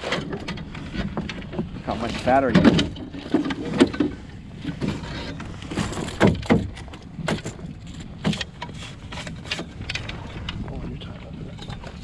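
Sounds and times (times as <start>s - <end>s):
gear knocking in a boat: 0.0s - 12.0s
water noise: 0.0s - 12.0s
wind: 0.0s - 12.0s.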